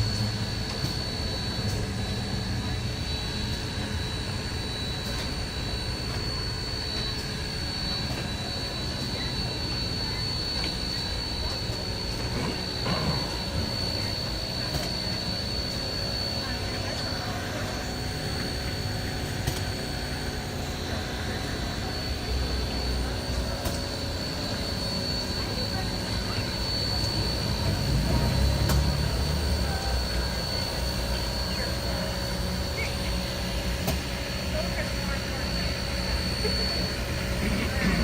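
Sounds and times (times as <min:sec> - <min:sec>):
steam train rumbling: 0:00.0 - 0:15.1, 0:20.0 - 0:38.0
high-pitched whine: 0:00.0 - 0:38.0.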